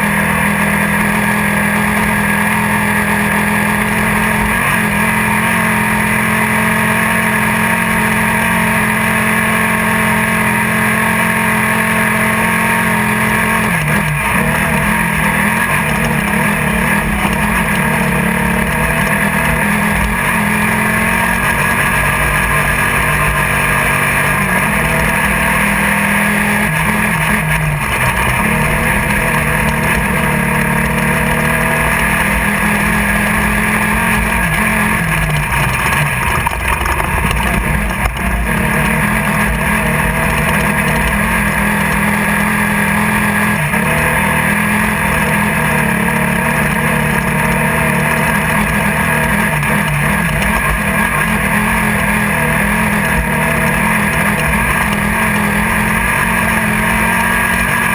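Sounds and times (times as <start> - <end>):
buggy engine running at high revs: 0.0 - 57.9.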